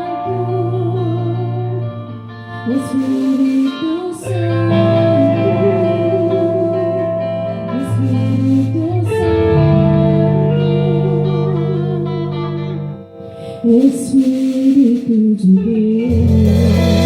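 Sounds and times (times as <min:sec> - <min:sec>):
guitar: 0:00.0 - 0:17.0
person singing: 0:00.0 - 0:17.0.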